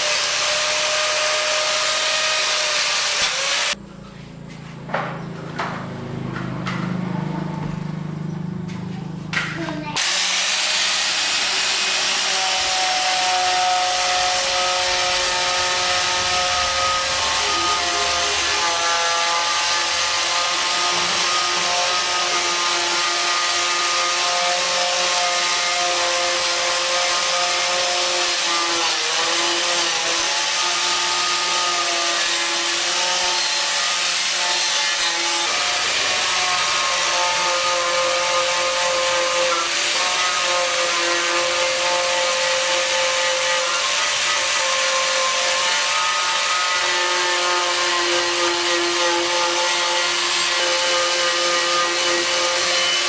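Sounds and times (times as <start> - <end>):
power tool grinding metal: 0.0 - 3.8, 9.4 - 53.0.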